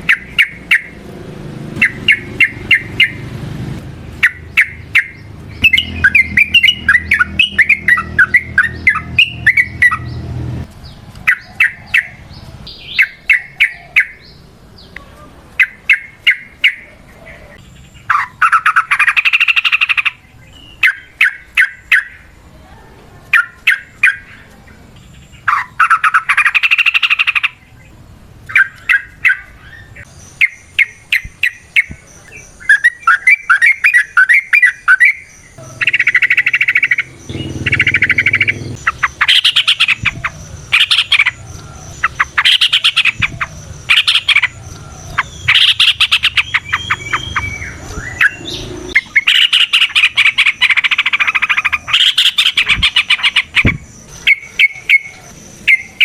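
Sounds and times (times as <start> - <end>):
bulbul singing: 0.0 - 22.7, 23.3 - 56.0.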